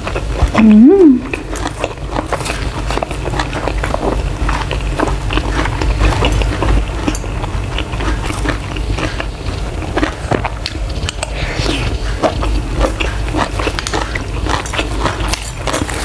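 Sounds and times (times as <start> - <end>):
chewing with mouth clicks and smacks: 0.0 - 16.0.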